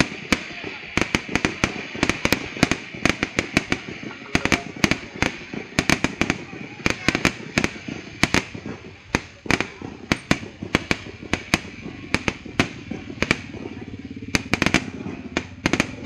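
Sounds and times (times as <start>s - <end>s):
fireworks banging: 0.0s - 16.0s.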